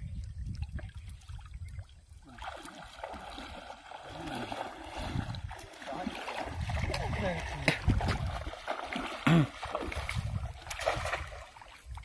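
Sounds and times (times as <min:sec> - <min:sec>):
water splashing around wading legs: 0:00.1 - 0:12.0.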